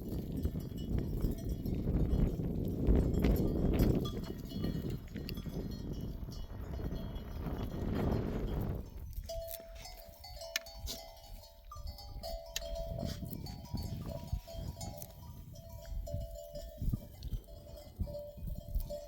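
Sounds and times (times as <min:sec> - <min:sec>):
sheep bells ringing: 0:00.0 - 0:19.0.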